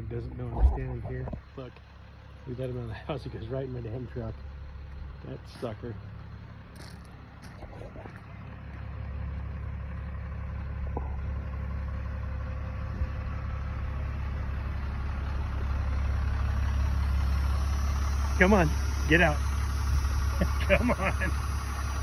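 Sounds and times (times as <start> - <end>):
pickup truck engine idling: 0.0 - 22.0.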